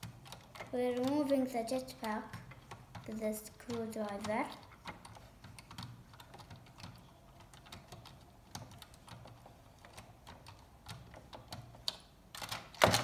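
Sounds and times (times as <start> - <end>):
screwdriver clicking on plastic: 0.0 - 13.0.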